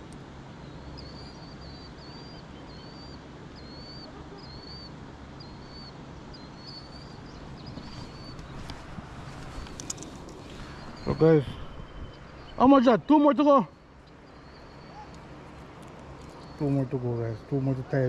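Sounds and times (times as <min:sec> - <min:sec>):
small bird chirping: 0:00.6 - 0:18.0.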